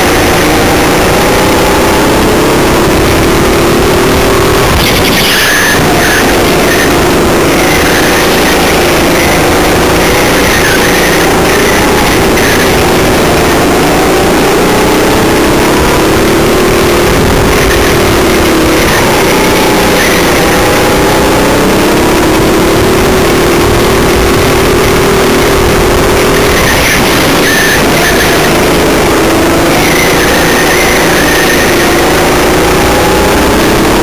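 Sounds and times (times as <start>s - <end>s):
go-kart motor running: 0.0s - 34.0s.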